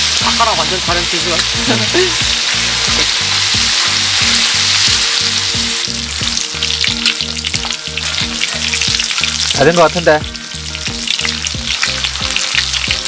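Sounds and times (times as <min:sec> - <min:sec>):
food sizzling and spattering: 0:00.0 - 0:13.0.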